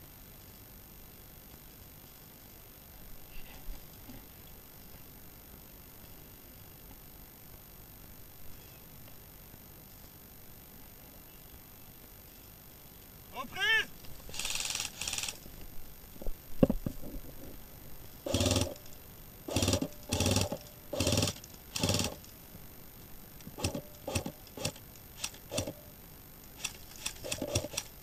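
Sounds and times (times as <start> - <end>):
rustle: 0.0 - 28.0.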